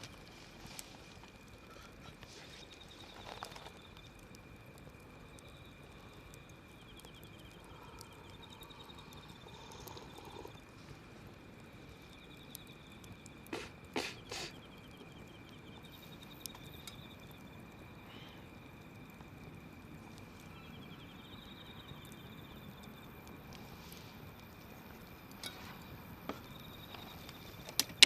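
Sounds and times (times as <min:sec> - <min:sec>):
fire popping: 0:00.0 - 0:28.0
wood fire crackling: 0:00.0 - 0:28.0.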